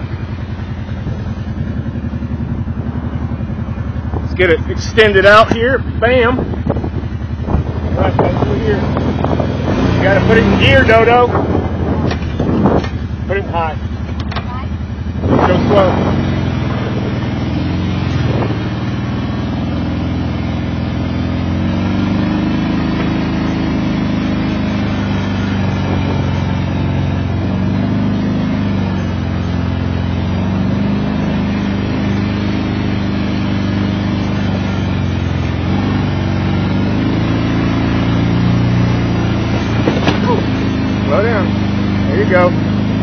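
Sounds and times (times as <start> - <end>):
atv engine droning: 0.0 - 43.0.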